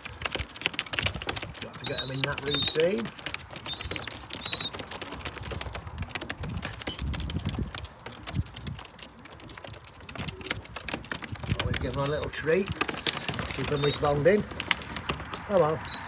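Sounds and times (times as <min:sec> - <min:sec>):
pigeons pecking on hard path: 0:00.0 - 0:16.0.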